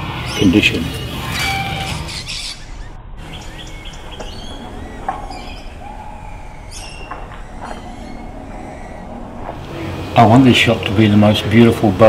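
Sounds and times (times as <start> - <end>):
birds chirping: 0.0 - 12.0
low background rumble: 2.0 - 12.0.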